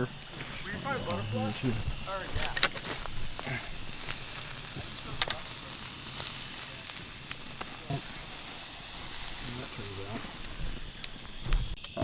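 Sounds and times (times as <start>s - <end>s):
campfire crackling: 0.0s - 12.0s
fire popping: 0.0s - 12.0s
sausage sizzling: 0.0s - 12.0s.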